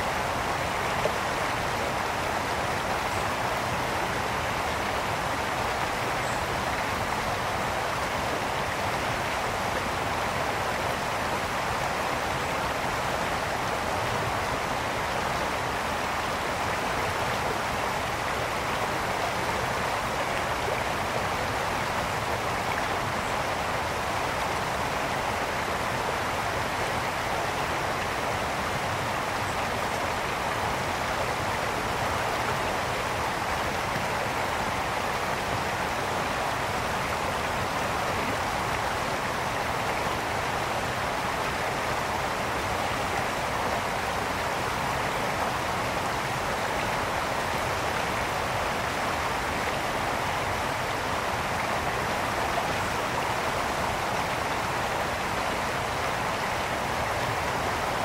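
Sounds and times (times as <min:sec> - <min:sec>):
water flowing over stones: 0:00.0 - 0:58.0.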